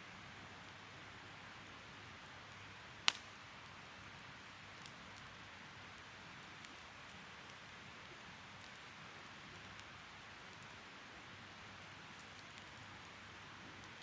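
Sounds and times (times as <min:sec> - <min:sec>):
fire crackling and popping: 0:00.1 - 0:14.0
wood fire hissing: 0:00.2 - 0:14.0.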